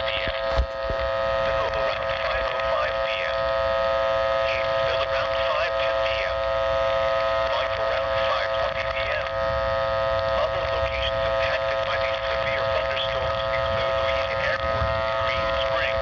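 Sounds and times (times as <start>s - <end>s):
garbled distorted broadcast voice: 0.0s - 3.5s, 4.3s - 16.0s
whining interference tones: 0.0s - 16.0s.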